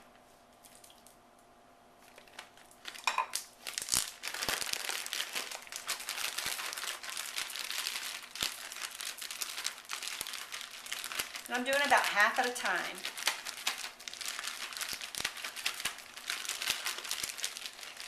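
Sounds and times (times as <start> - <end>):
plastic bag crinkling: 2.0 - 18.0.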